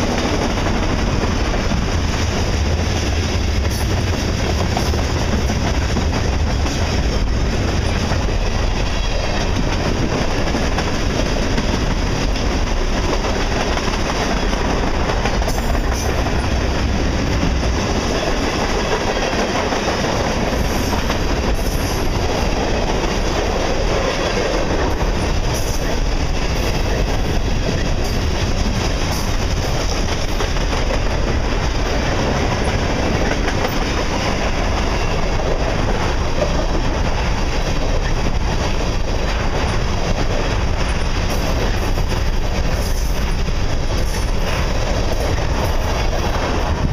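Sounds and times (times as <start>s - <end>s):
train wheels on rails: 0.0s - 46.9s.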